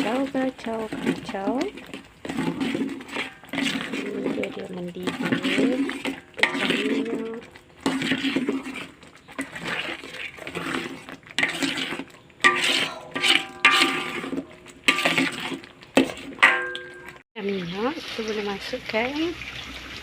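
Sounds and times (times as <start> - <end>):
spatula scraping a wok: 0.0 - 17.2.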